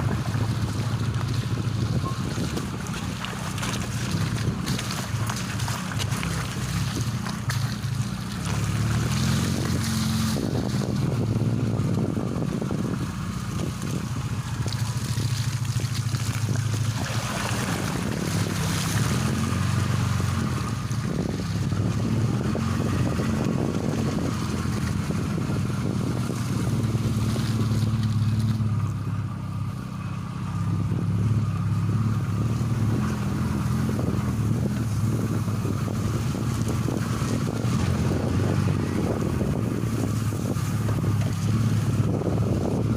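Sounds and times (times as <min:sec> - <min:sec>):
car engine and road drone: 0:00.0 - 0:42.9.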